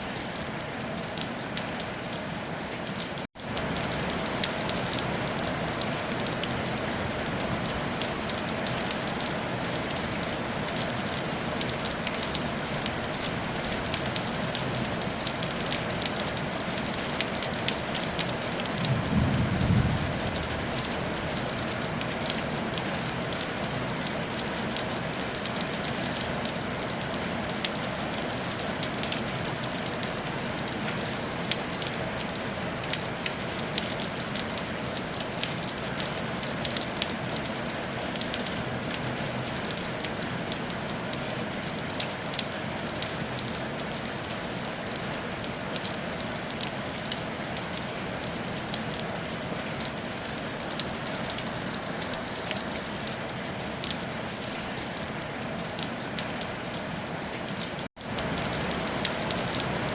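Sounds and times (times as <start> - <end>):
rain on a tile roof: 0.0 - 59.9
raindrops ticking on tiles: 0.0 - 59.9.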